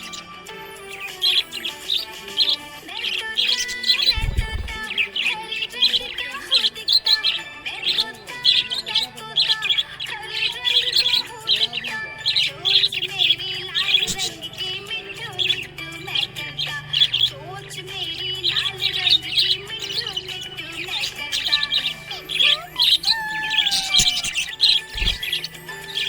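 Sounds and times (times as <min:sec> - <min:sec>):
budgerigar chirping and warbling: 0:00.0 - 0:26.0.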